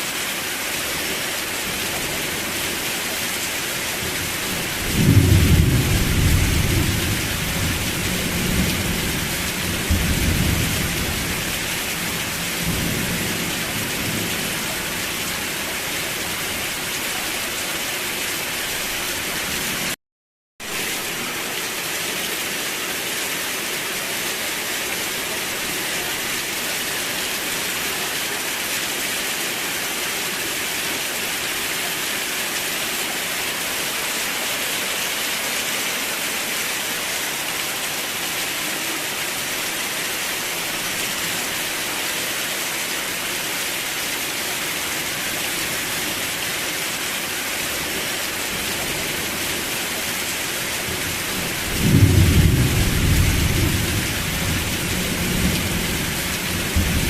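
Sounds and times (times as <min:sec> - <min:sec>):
steady rain falling: 0:00.0 - 0:20.0, 0:20.6 - 0:57.0.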